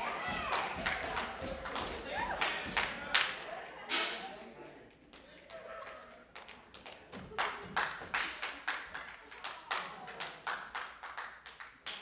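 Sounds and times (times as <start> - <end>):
rhythmic hand claps: 0.0 - 3.5, 5.0 - 12.0.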